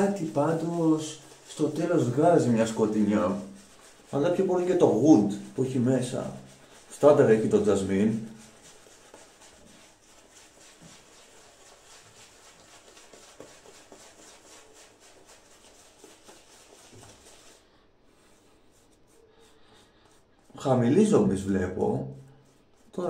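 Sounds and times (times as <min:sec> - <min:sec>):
shaving brush swirling lather: 0:00.0 - 0:23.0.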